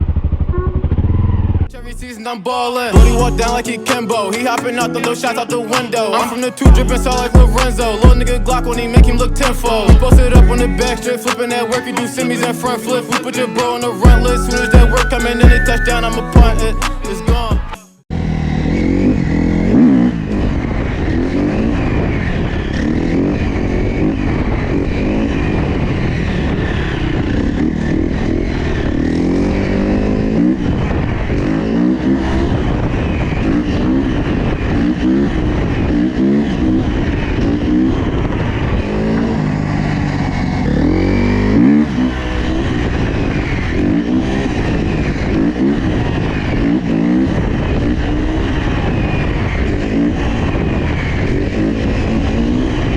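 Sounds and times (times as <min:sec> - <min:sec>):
dirt bike engine revving: 0:00.0 - 0:02.2, 0:02.9 - 0:52.9.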